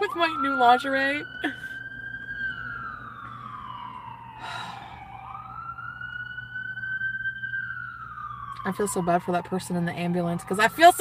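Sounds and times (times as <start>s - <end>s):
ambulance siren wailing: 0.0s - 11.0s.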